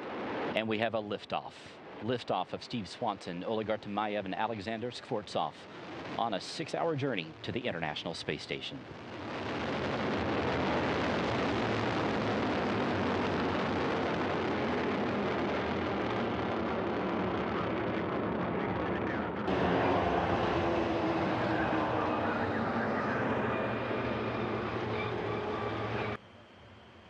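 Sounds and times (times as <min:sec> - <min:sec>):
rocket engines roaring: 0:00.0 - 0:26.2.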